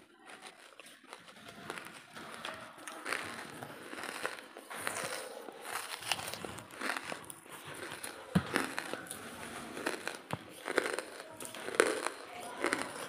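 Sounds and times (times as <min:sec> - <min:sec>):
charcoal crunching and cracking: 0:00.1 - 0:13.0.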